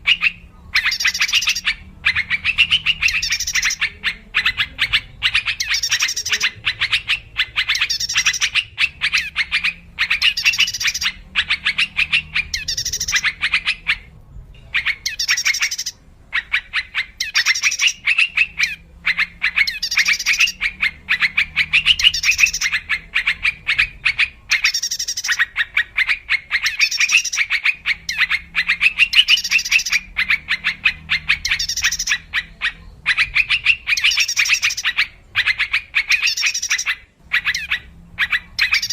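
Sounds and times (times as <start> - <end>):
bulbul rapid chattering calls: 0.0 - 38.9.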